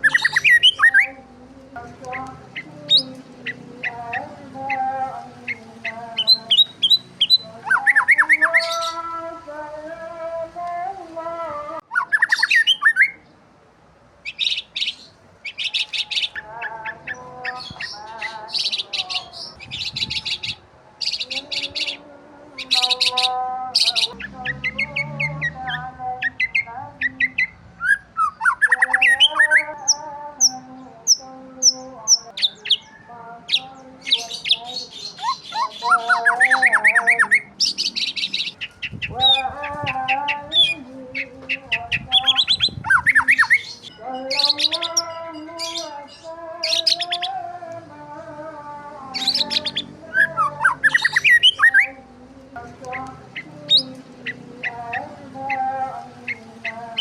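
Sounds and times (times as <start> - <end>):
gliding bird calls: 0.0 - 1.2, 2.0 - 9.1, 11.8 - 13.2, 14.2 - 22.0, 22.6 - 31.2, 33.6 - 47.4, 49.1 - 52.0, 52.8 - 57.0
birds chirping: 0.0 - 13.5, 14.2 - 57.0.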